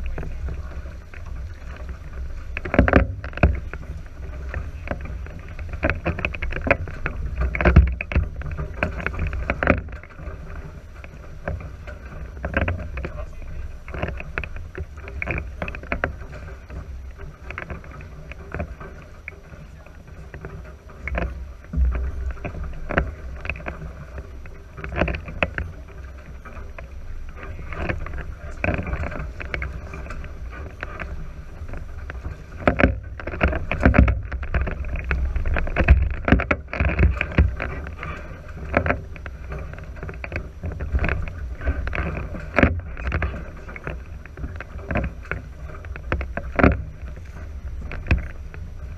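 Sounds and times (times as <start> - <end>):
water splashing against hulls: 0.0 - 48.9
wind rumble on microphone: 0.0 - 48.9.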